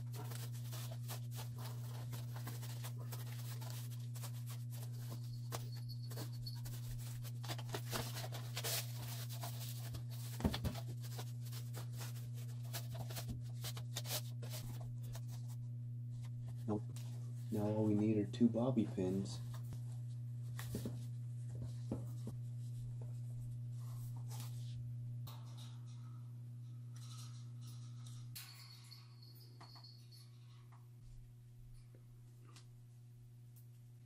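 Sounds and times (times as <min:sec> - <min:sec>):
steady low hum: 0:00.0 - 0:29.2.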